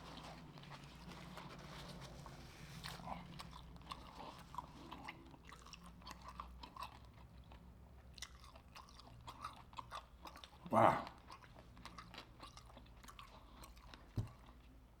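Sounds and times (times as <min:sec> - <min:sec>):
close chewing: 0:00.0 - 0:15.0.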